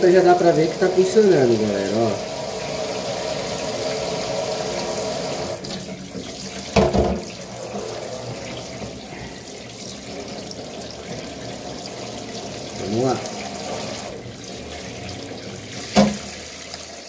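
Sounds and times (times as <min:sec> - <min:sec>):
faucet water splashing into sink: 0:00.0 - 0:17.0.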